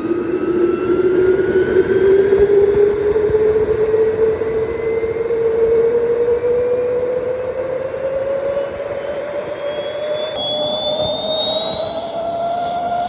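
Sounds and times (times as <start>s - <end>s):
high rising whine: 0.0s - 13.0s
jet engine roaring and whining: 0.0s - 13.0s.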